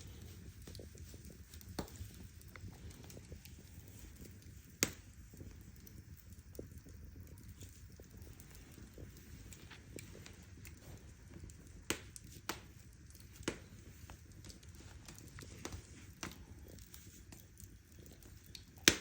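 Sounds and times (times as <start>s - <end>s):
fire pops: 0.0s - 19.0s
wood fire crackling: 0.0s - 19.0s.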